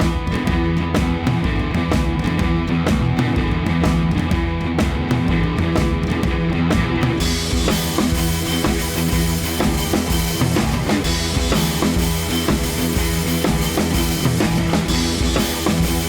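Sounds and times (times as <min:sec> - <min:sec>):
rock drum beat: 0:00.0 - 0:16.0.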